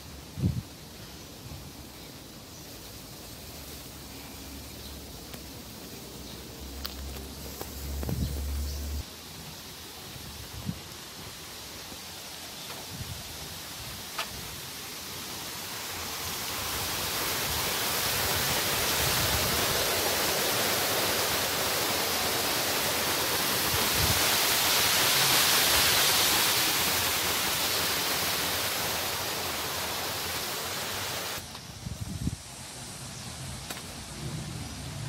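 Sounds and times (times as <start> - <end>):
stream water rushing: 2.2 - 31.5.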